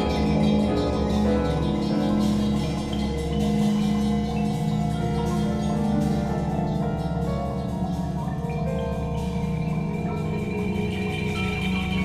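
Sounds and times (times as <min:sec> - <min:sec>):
low sustained tone: 0:00.0 - 0:12.0
marimbas playing ringing notes: 0:00.0 - 0:12.0.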